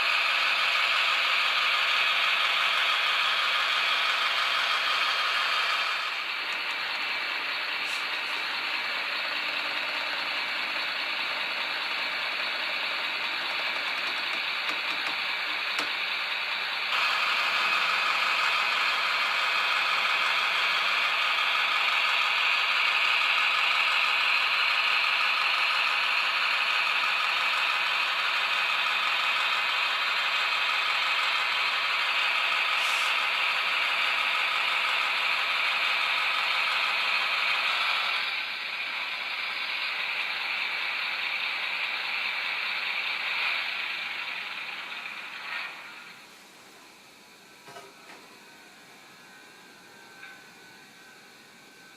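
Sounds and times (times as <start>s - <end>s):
engine sound from small loudspeaker: 0.0s - 46.8s
model train running gear: 0.0s - 51.9s.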